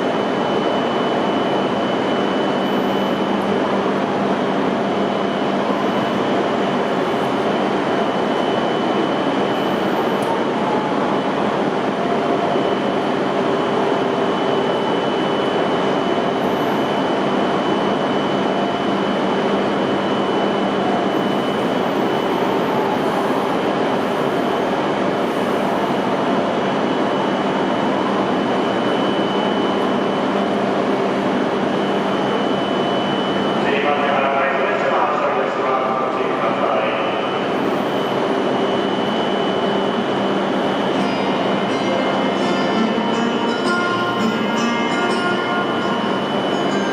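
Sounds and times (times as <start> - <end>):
train equipment hum and whine: 0.0 - 46.9.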